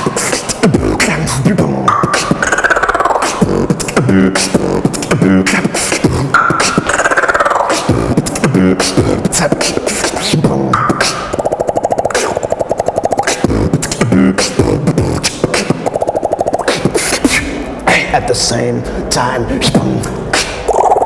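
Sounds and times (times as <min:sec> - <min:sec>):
person beatboxing: 0:00.0 - 0:21.0.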